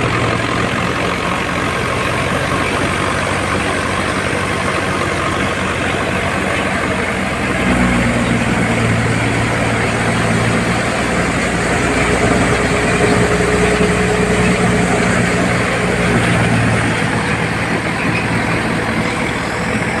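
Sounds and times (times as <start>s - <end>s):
threshing drum working straw: 0.0s - 20.0s
tractor engine droning: 0.0s - 20.0s.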